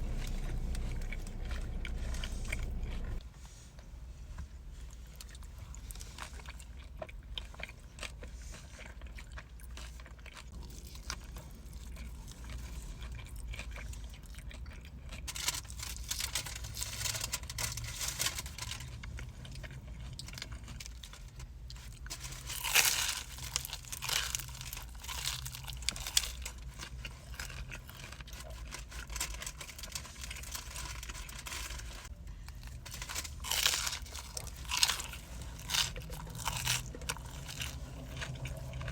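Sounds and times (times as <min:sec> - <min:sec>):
chewing and crunching: 0:00.0 - 0:03.2, 0:04.7 - 0:38.9.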